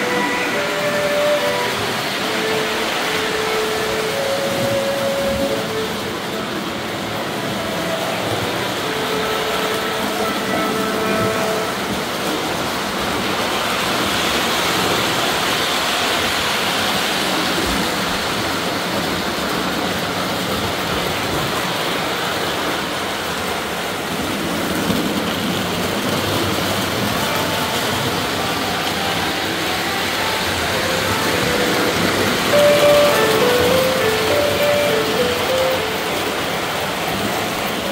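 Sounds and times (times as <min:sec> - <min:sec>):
model train running on track: 0:00.0 - 0:37.9.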